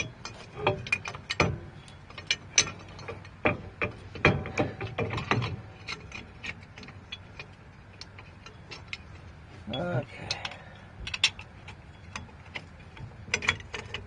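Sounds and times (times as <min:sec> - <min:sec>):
metallic clicks and clanks: 0:00.0 - 0:14.0.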